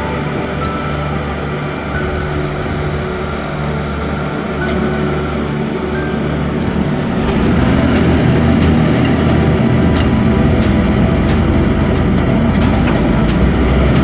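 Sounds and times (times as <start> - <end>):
diesel crane engine drone: 0.0 - 14.0.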